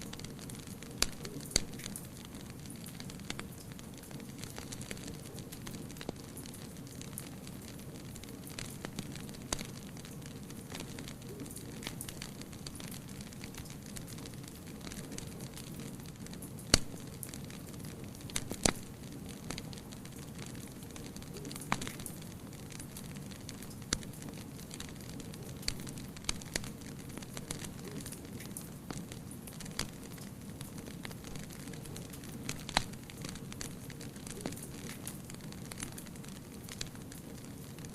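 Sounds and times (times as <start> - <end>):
low rumble of flames: 0.0 - 37.9
wood fire crackling and popping: 0.0 - 37.9.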